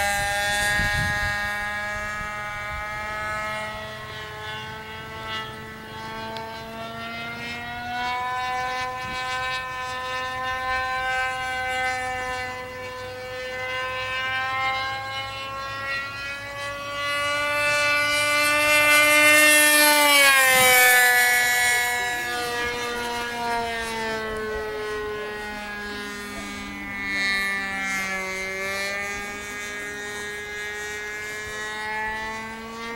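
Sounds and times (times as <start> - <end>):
model airplane engine buzzing: 0.0 - 32.9.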